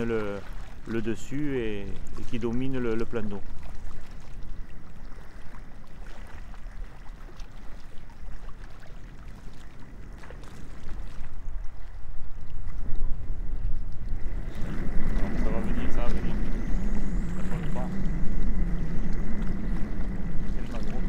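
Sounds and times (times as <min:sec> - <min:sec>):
faint water lapping: 0:00.0 - 0:21.0
wind rumbling on microphone: 0:00.0 - 0:21.0.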